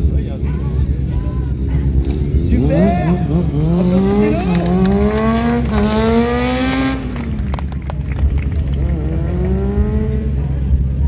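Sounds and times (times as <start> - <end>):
motorcycle engine revving: 0.9 - 7.8, 8.5 - 11.0.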